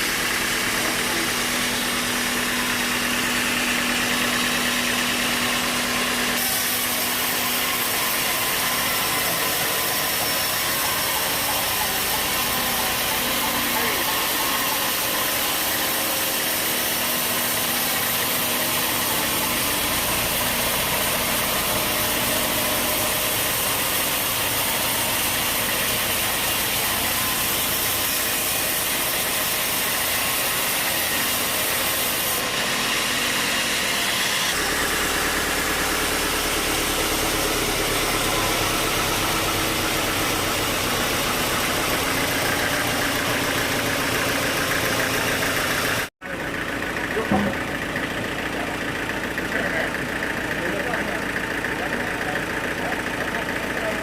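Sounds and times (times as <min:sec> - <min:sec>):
sawmill machinery engine drone: 0:00.0 - 0:54.0.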